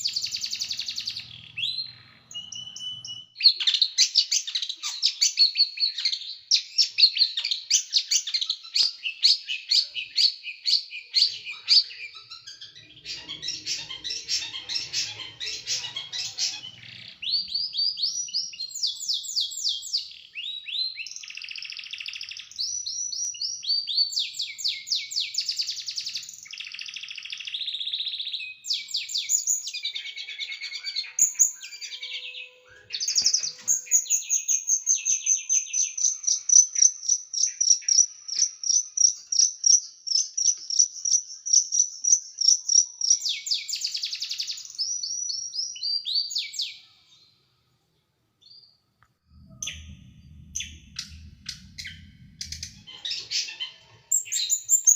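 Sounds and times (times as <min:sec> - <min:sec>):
small songbird singing trills: 0:00.0 - 0:47.4, 0:48.4 - 0:54.9.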